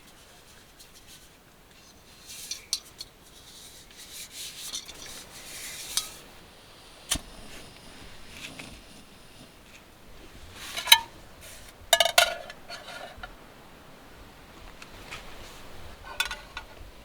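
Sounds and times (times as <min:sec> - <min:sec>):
objects rustling and scraping: 0:00.0 - 0:06.4, 0:07.1 - 0:13.4, 0:14.5 - 0:17.0.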